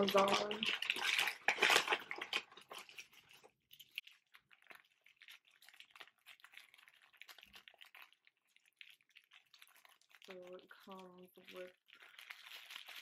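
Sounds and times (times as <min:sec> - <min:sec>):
plastic sleeves crinkling: 0:00.0 - 0:13.0.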